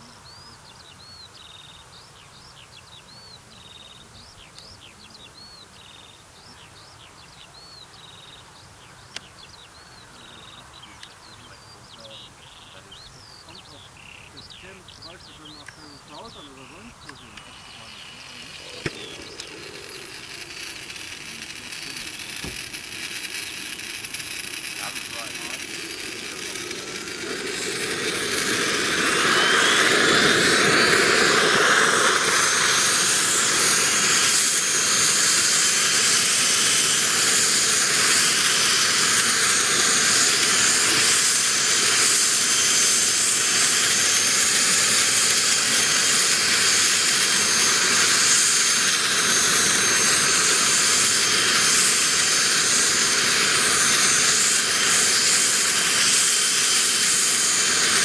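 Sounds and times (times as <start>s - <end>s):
model turbine engine whine: 0.0s - 58.0s
turbine hiss: 0.0s - 58.0s.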